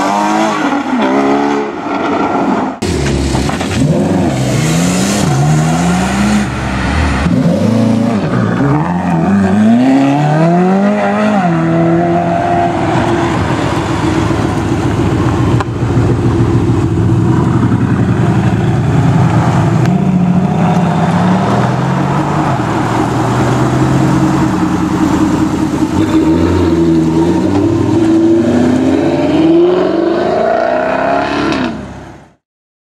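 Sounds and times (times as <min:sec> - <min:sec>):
car engines revving and accelerating: 0:00.0 - 0:32.4.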